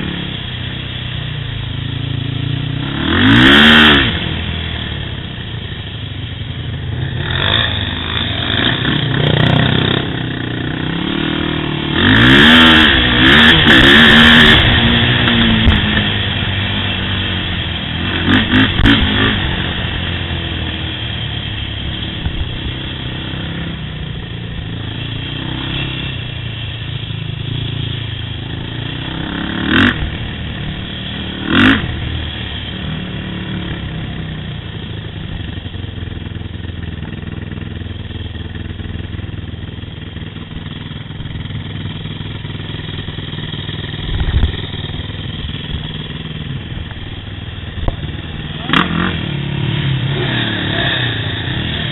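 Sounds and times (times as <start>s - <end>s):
quad engine running: 0.0s - 51.9s.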